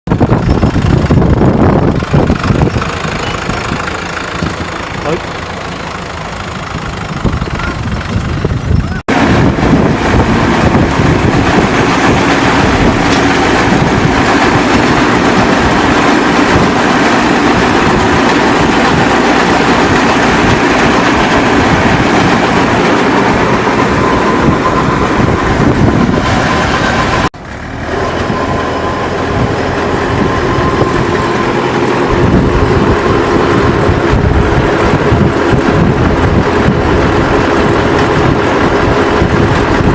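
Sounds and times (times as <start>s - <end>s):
hay baler and tractor running: 0.1s - 39.9s.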